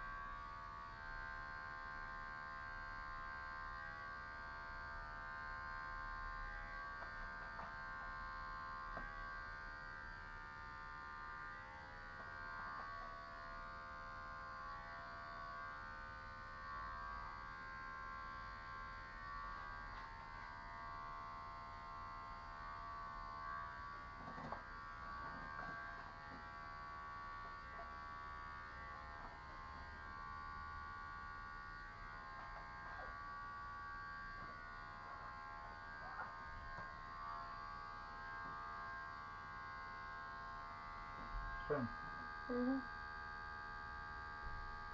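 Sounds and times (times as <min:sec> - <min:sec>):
electric hair clippers buzzing: 0:00.0 - 0:44.9.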